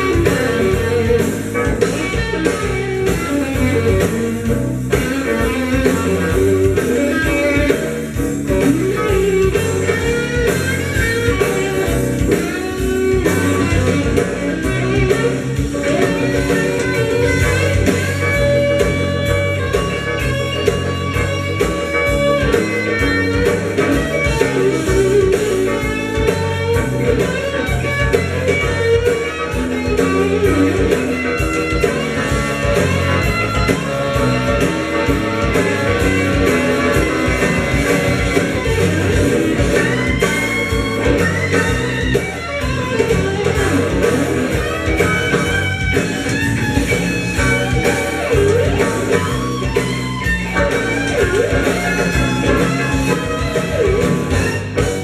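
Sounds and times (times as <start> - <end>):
rock and roll music: 0.0 - 55.0.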